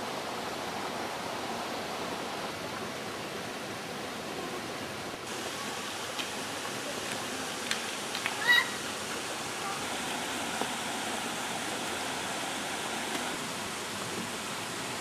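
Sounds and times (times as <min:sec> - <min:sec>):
river and waterfall rushing: 0:00.0 - 0:15.0.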